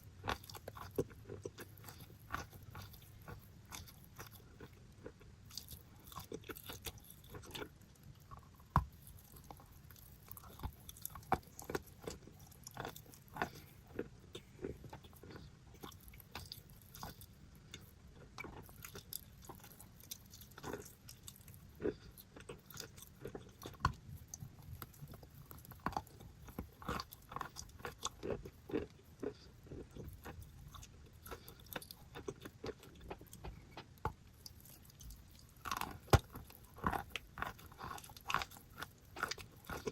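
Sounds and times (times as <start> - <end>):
chewing crunchy chalk: 0.2 - 39.9.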